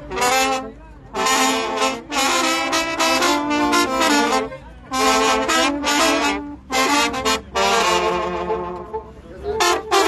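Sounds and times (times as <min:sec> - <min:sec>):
brass band playing: 0:00.0 - 0:10.0.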